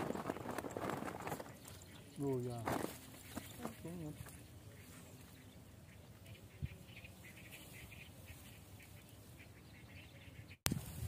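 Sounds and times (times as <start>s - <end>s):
faint animal calls chattering: 0.0s - 10.6s.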